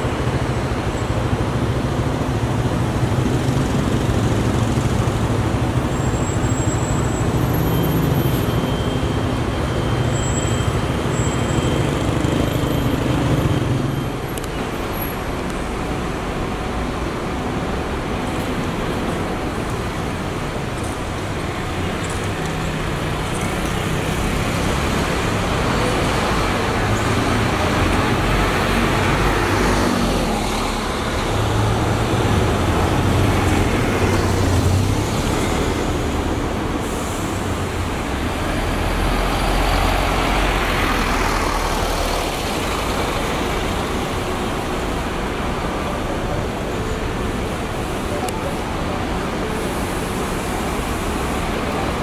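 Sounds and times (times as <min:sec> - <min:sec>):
bus engines passing: 0:00.0 - 0:52.0
steady traffic noise: 0:00.0 - 0:52.0.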